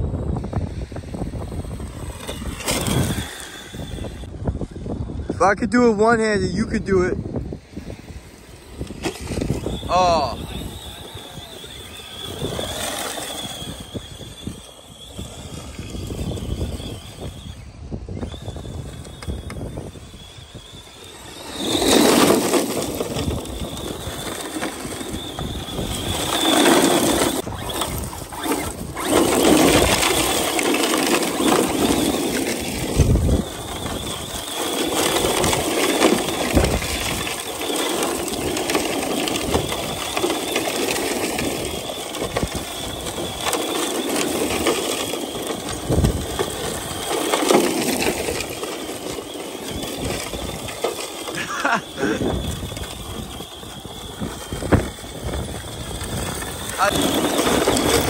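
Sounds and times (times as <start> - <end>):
electric motor whining: 0.0 - 5.3, 6.7 - 58.0
tyres spraying sand: 5.4 - 58.0.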